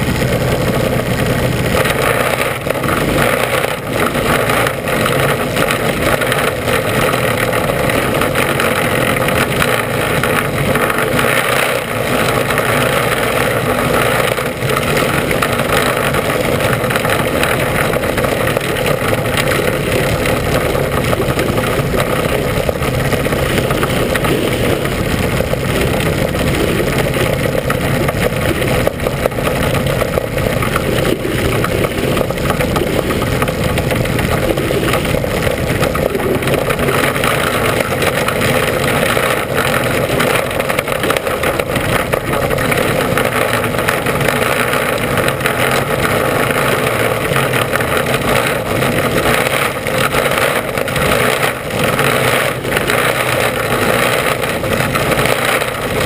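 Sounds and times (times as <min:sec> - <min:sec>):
race car engine running hard: 0:00.0 - 0:56.0
road and wind noise: 0:00.0 - 0:56.0.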